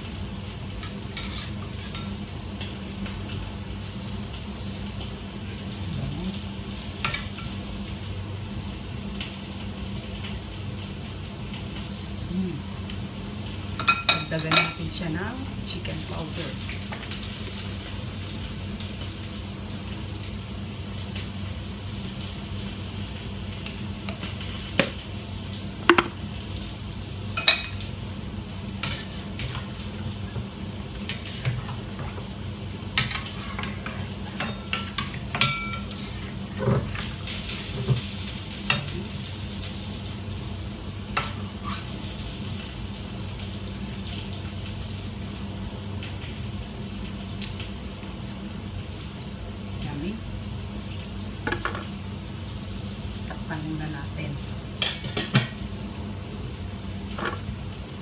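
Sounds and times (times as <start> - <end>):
faint sizzle: 0.0 - 58.0.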